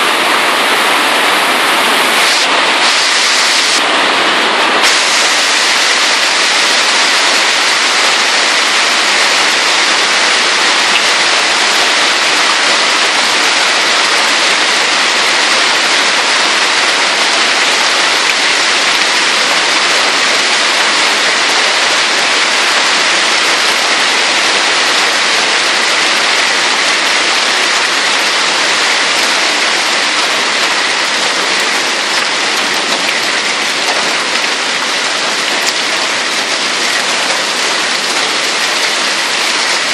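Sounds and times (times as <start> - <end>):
hail pelting roofs and street: 0.0 - 39.9.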